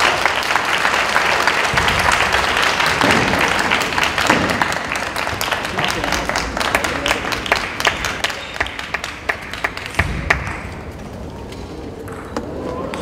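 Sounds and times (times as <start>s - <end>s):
spectators clapping in rhythm: 0.0s - 10.8s.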